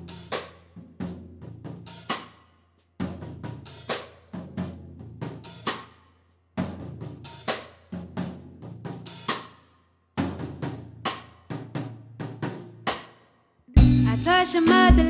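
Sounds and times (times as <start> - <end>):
acoustic drum kit grooves: 0.0 - 15.0.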